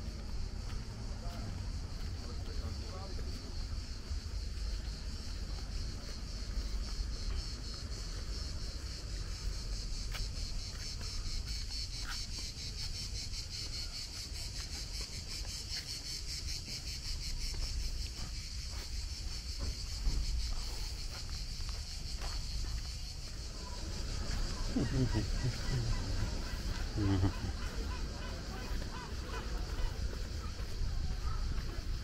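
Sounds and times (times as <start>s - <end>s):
cicadas buzzing: 0.0s - 32.0s.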